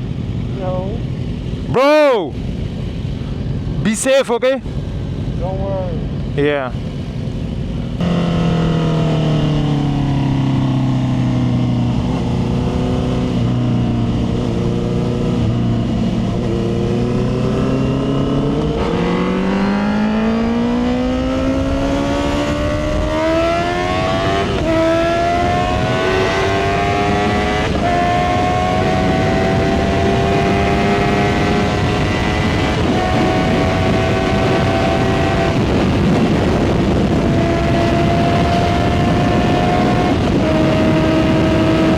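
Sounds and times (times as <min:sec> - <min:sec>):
motorcycle engine accelerating: 0:04.8 - 0:41.9.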